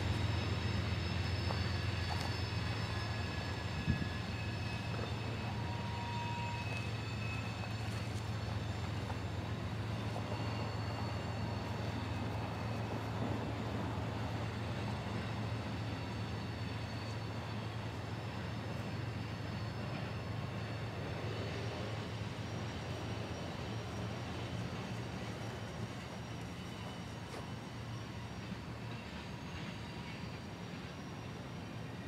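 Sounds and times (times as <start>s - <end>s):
faint high whines: 0.0s - 32.0s
freight train rumbling past: 0.0s - 32.0s.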